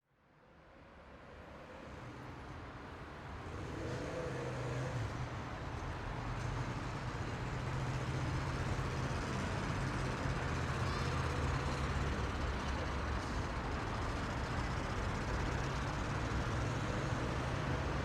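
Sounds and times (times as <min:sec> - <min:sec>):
heavy road traffic rumble: 0:01.4 - 0:18.0.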